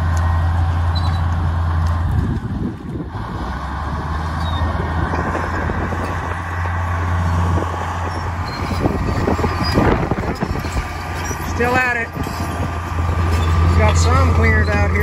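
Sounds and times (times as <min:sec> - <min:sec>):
bulldozer diesel engine under load: 0:00.0 - 0:15.0
bulldozer pushing through brush: 0:00.0 - 0:15.0.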